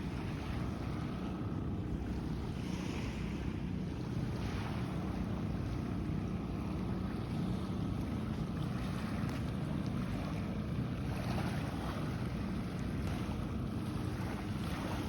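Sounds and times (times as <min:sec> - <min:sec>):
small waves washing on sand: 0:00.0 - 0:15.0.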